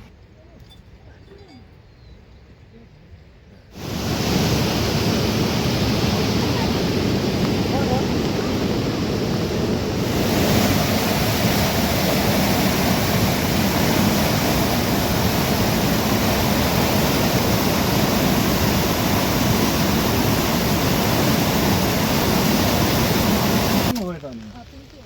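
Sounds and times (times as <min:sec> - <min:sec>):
heavy rain falling: 0:03.8 - 0:25.0.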